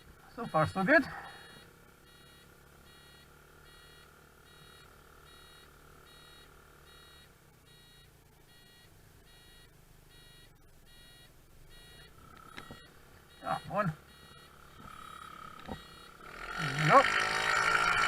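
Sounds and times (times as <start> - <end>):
electronic beeping: 0.3 - 18.0.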